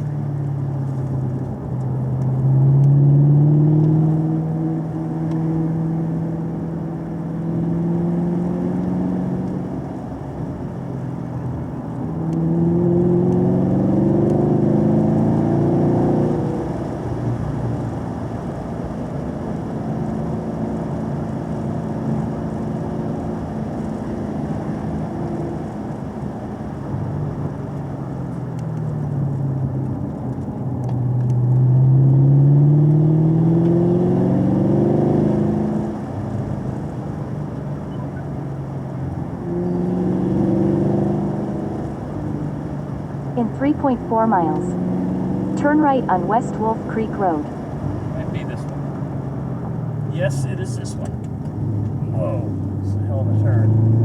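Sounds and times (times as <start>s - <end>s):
car engine pulling hard: 0.0s - 54.0s.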